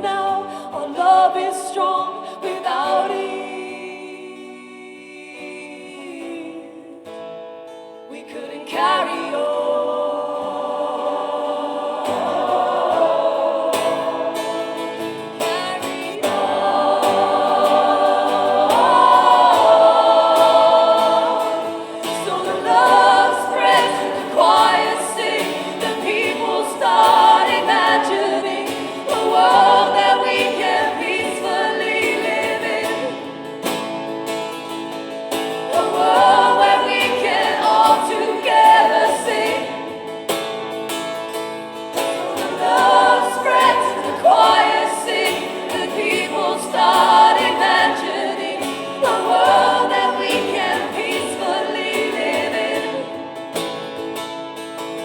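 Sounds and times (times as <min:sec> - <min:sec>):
choir singing in harmony: 0:00.0 - 0:07.2, 0:08.1 - 0:55.0
acoustic guitar: 0:00.0 - 0:55.0.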